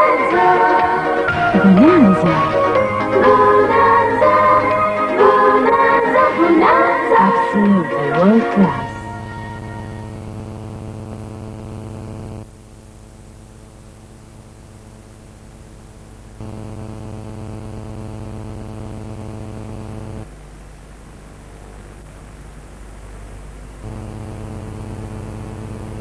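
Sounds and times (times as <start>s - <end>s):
electrical buzzing hum: 0.0s - 26.0s
tape hiss: 0.0s - 26.0s.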